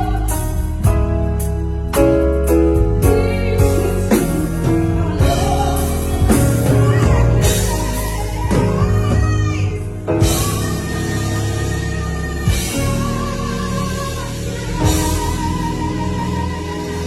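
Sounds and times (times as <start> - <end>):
full band playing: 0.0 - 17.0
person singing a ballad: 0.0 - 17.0.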